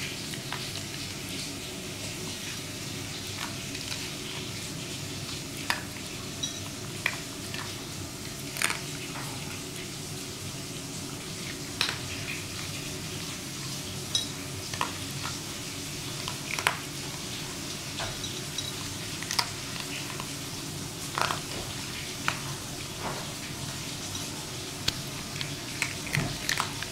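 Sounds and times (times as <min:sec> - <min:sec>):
dog crunching kibble in a bowl: 0:00.0 - 0:09.4, 0:11.3 - 0:17.5, 0:18.3 - 0:22.6, 0:24.8 - 0:26.9.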